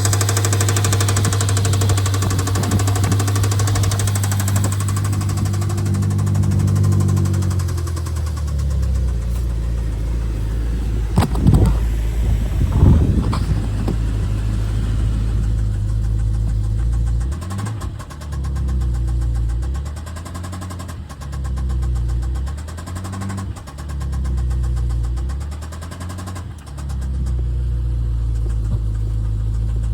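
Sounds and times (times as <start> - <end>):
knocking engine revving: 0.0 - 29.9.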